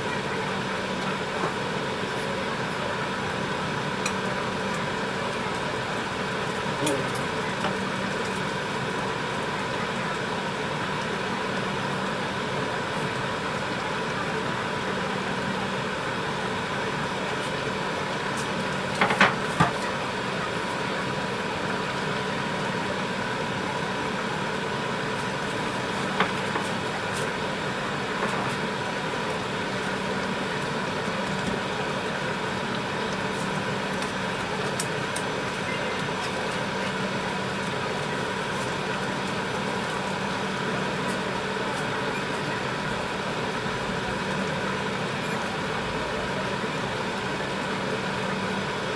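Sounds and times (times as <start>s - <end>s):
exhaust fan hum: 0.0s - 48.9s
pot simmering: 0.0s - 48.9s.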